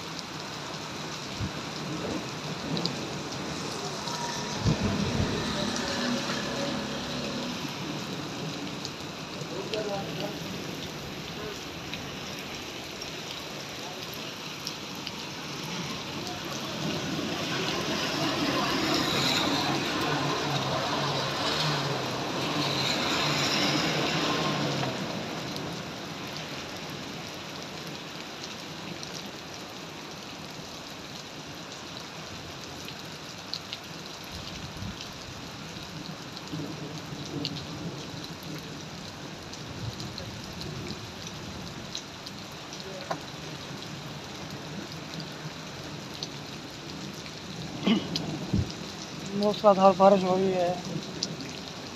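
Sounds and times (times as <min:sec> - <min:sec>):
heavy rain on a road: 0:00.0 - 0:51.9
raindrops ticking close by: 0:00.0 - 0:51.9.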